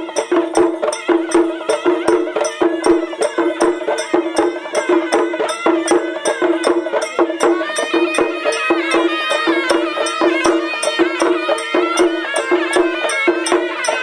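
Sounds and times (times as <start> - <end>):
barrel drums beaten with sticks: 0.0 - 14.0.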